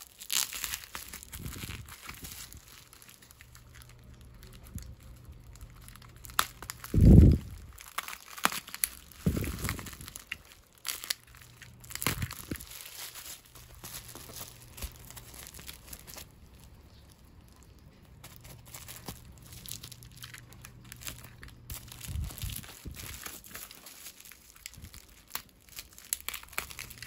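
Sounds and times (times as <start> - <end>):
bubble-wrap mailer crinkling: 0.0 - 27.0.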